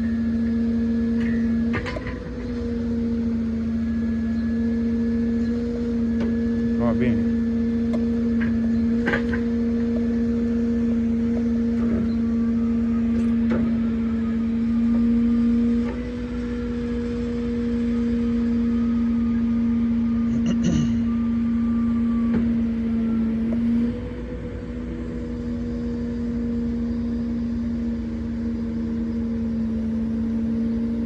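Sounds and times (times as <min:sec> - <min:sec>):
truck engine and hydraulic hum: 0:00.0 - 0:31.0.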